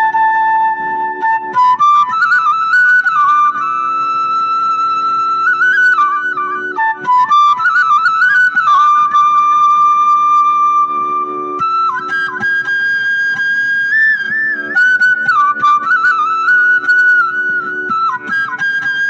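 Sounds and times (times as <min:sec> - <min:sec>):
bamboo flute melody: 0:00.0 - 0:19.0.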